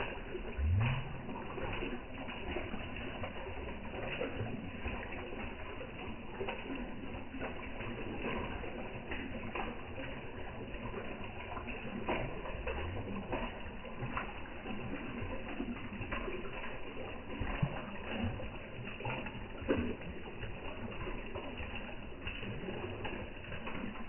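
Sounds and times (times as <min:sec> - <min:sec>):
fish slurping and splashing: 0:00.0 - 0:24.0.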